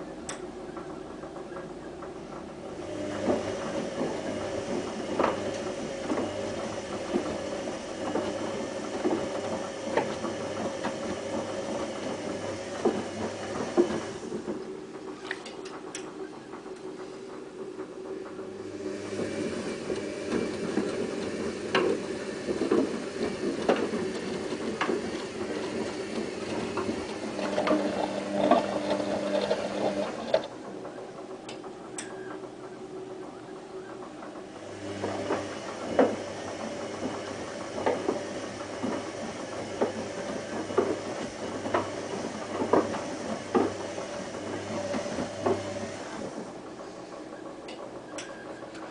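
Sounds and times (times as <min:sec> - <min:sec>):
knocks and clicks of tumbling load: 0:00.0 - 0:48.9
washing machine drum turning: 0:00.0 - 0:48.9.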